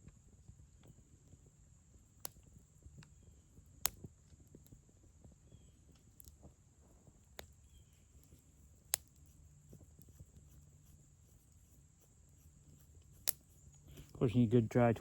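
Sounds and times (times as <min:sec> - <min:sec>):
fire pops: 0:00.0 - 0:10.5, 0:13.0 - 0:15.0
twig fire crackling: 0:00.0 - 0:15.0.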